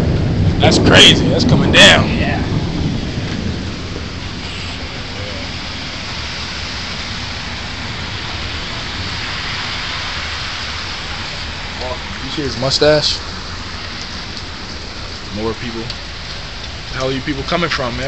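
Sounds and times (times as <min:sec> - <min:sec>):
heavy rain on brick street: 0:00.0 - 0:18.0.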